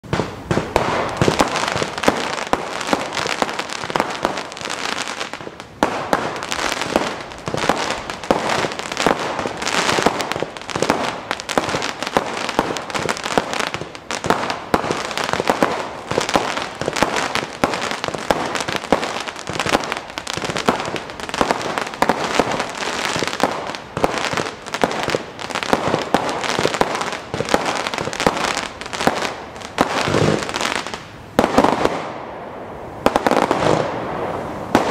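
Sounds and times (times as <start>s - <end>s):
crackling firework stars: 0.0s - 34.9s.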